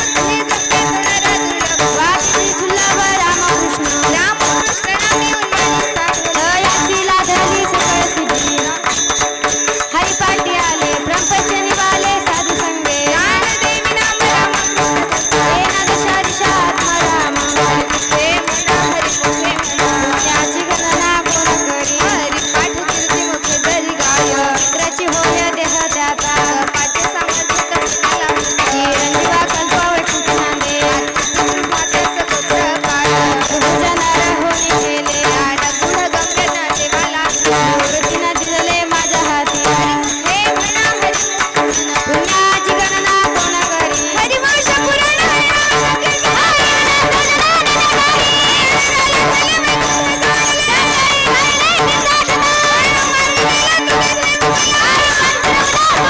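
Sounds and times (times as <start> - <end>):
ringing hand cymbals: 0.0 - 56.0.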